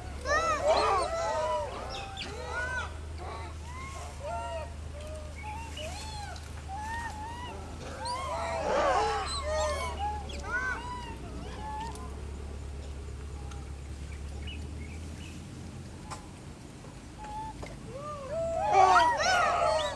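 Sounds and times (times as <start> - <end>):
monkeys giving coo calls: 0.0 - 13.9, 17.2 - 19.9
steady low rumble: 0.0 - 18.6.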